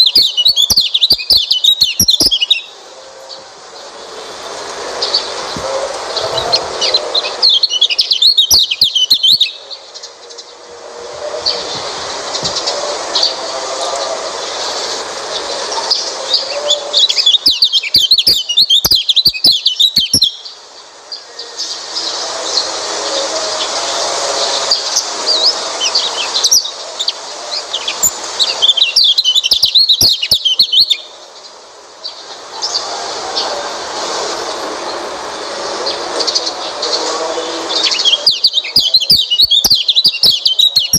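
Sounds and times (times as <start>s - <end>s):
bird twittering chirps: 0.0s - 23.8s, 24.4s - 33.5s, 35.8s - 40.9s
bird rapid warbling twitter: 0.0s - 40.9s.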